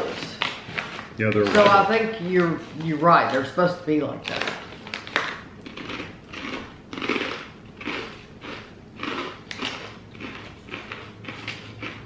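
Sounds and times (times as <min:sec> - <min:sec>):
chewing crunchy chips: 0:00.0 - 0:12.0.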